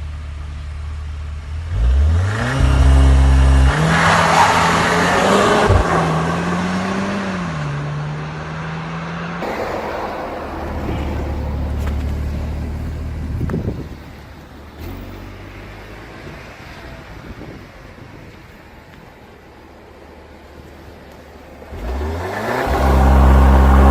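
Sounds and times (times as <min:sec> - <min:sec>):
car engine and exhaust: 0:00.0 - 0:23.9.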